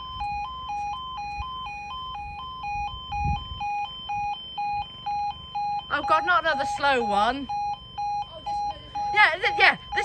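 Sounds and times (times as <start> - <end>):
two-tone crossing alarm: 0.0 - 10.0.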